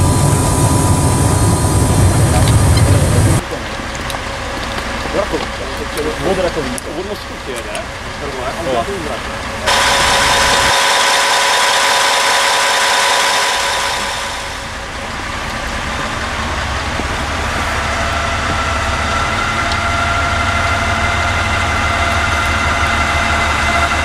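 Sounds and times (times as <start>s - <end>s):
diesel railcar engine rumbling: 0.0s - 24.0s
steady high whine: 0.0s - 24.0s.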